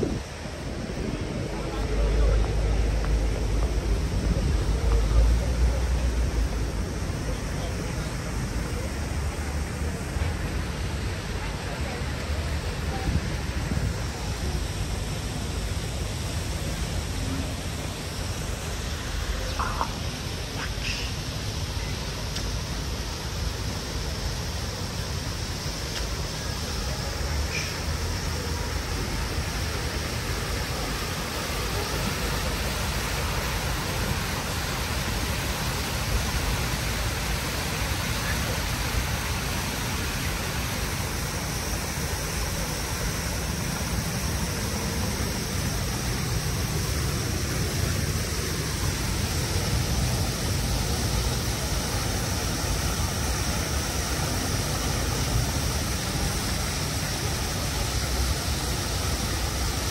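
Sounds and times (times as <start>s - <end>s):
city traffic rumble: 0.0s - 59.9s
fountain water splashing: 0.0s - 59.9s.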